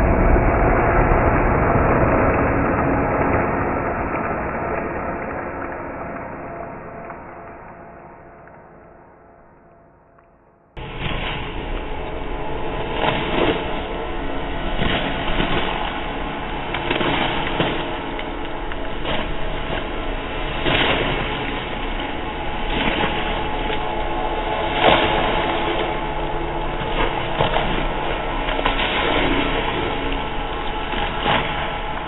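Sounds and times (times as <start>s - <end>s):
dense rumbling horror drone: 0.0s - 32.0s
lingering steady tones: 0.0s - 32.0s.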